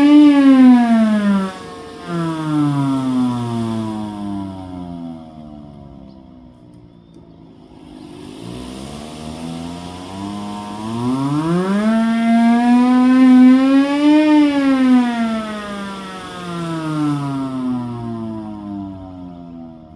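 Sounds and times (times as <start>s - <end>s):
hand-crank siren wailing: 0.0s - 19.8s
steady hiss: 0.0s - 19.9s.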